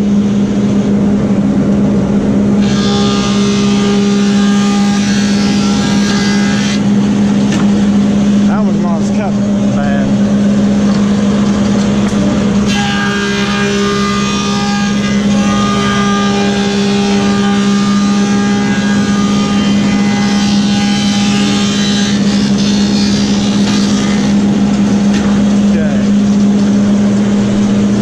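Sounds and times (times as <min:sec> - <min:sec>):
high whine of board planing: 0:00.0 - 0:28.0
planer humming: 0:00.0 - 0:28.0.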